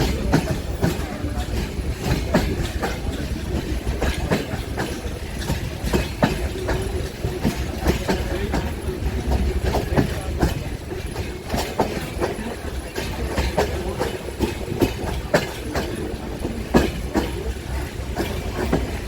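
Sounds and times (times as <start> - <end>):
train low rumble: 0.0 - 19.0
train wheels clicking on rail joints: 0.0 - 19.0.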